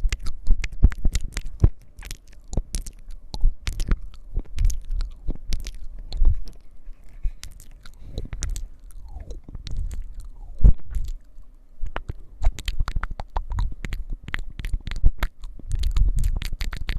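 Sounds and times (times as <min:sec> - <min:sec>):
soft low thumps: 0:00.0 - 0:06.6, 0:07.2 - 0:16.7
mouth sounds: 0:00.0 - 0:16.9
scratching: 0:00.0 - 0:16.9.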